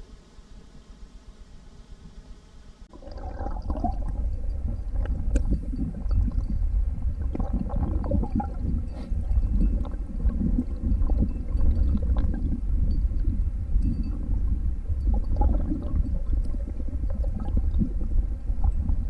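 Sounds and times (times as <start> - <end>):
water gurgling and sloshing: 2.9 - 19.0
deep rumble: 3.4 - 19.0.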